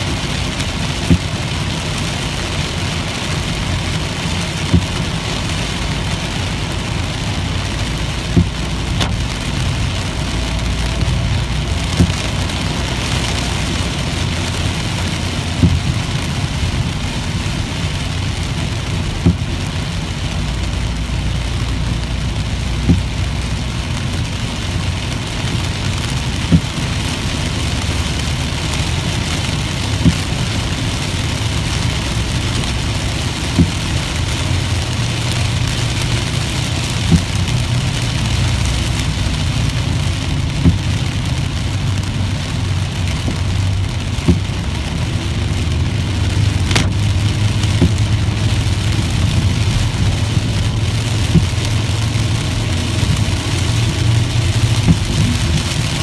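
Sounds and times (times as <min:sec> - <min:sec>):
rain hissing on windshield: 0:00.0 - 0:56.0
road and engine rumble: 0:00.0 - 0:56.0
windshield wipers thumping: 0:00.0 - 0:56.0.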